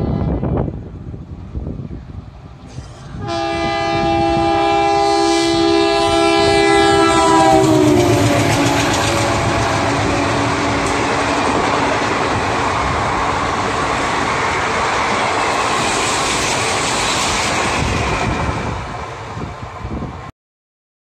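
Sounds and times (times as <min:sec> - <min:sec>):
train wheels rolling on rails: 0:00.0 - 0:20.3.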